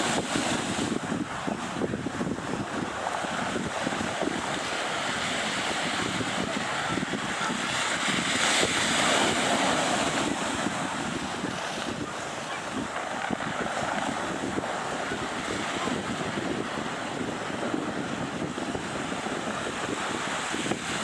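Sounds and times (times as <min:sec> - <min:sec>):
distant jet engine roar: 0:00.0 - 0:21.0
wind on microphone: 0:00.0 - 0:21.0.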